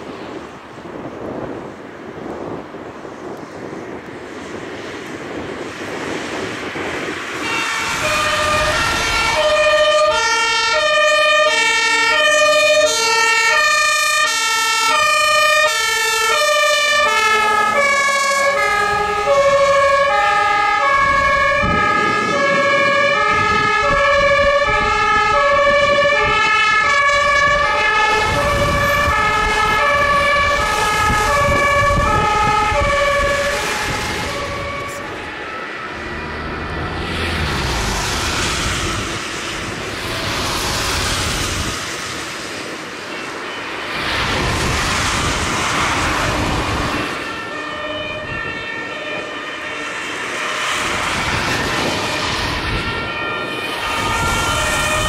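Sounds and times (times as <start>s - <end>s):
truck engine and tyre noise: 0.0s - 55.0s
two-tone fire engine sirens: 0.0s - 55.0s.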